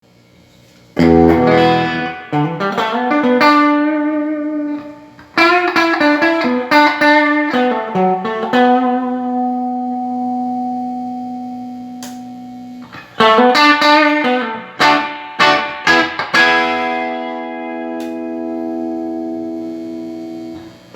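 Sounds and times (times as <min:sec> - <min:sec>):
electric guitar through amplifier: 0:00.8 - 0:20.9.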